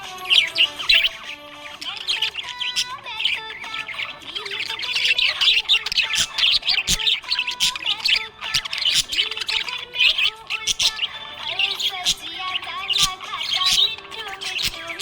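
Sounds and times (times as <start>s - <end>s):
budgerigars chirping and squawking: 0.0s - 15.0s.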